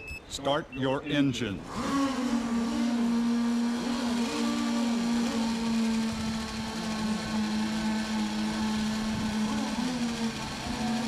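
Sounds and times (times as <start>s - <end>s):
model boat engines revving: 1.6s - 11.0s.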